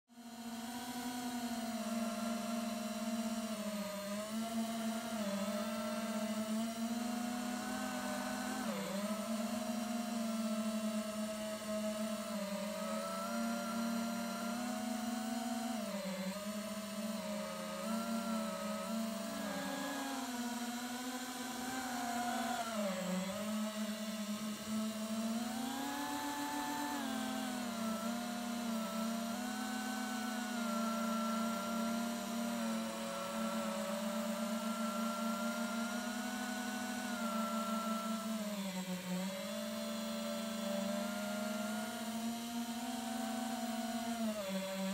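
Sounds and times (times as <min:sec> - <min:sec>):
quadcopter motors whining: 0:00.1 - 0:44.9
drone propellers humming: 0:00.5 - 0:44.9.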